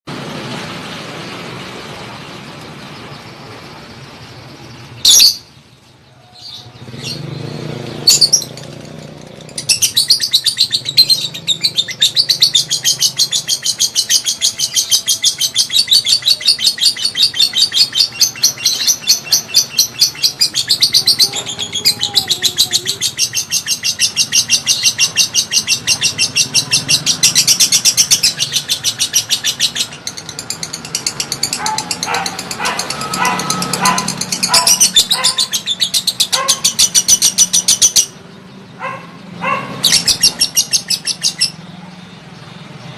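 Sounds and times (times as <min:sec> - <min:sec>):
lovebird fast high chirps: 0:06.2 - 0:38.2, 0:38.8 - 0:42.3.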